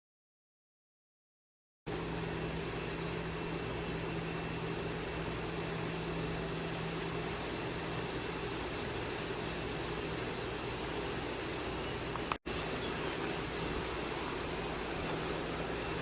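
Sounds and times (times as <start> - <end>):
machine hum with hiss: 1.9 - 16.0.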